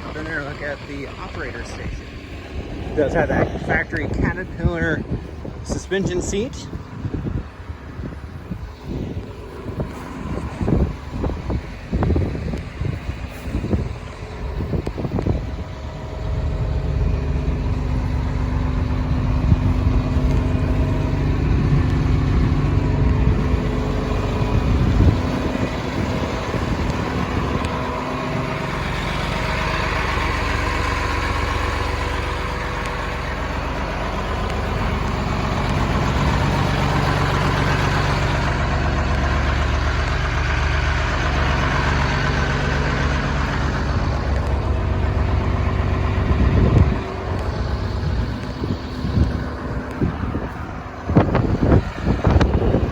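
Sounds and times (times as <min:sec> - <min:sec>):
excavator diesel engine idling: 0:00.0 - 0:52.9.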